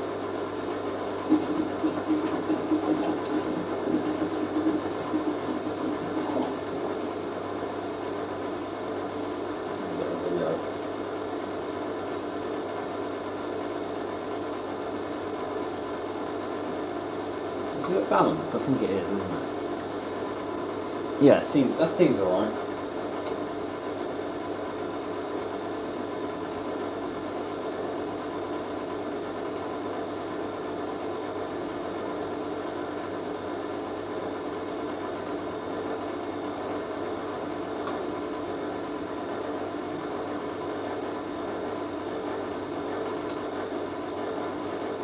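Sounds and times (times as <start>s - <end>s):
washing machine humming: 0.0s - 45.0s.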